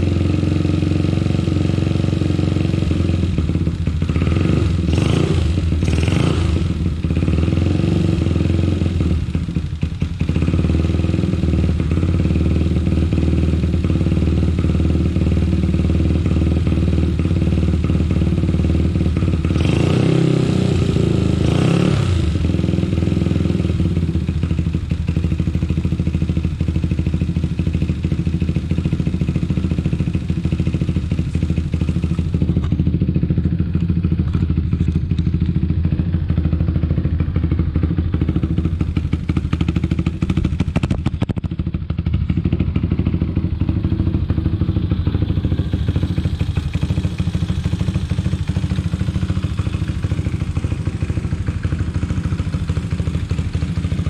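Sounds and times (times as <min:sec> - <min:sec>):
small motorcycle engine idling: 0:00.0 - 0:54.0.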